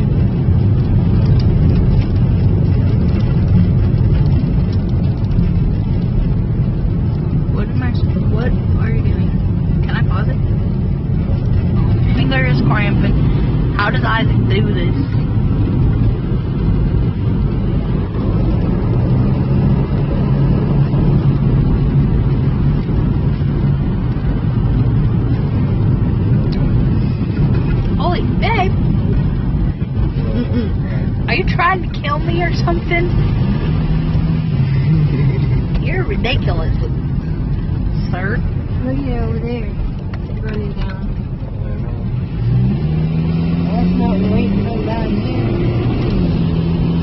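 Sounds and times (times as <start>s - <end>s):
car driving rumble from inside: 0.0s - 47.0s.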